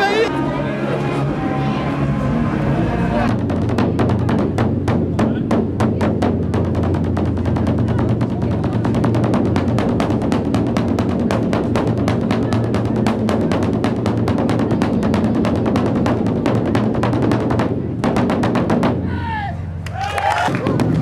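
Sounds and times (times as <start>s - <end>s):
large drum roll: 0.0s - 21.0s.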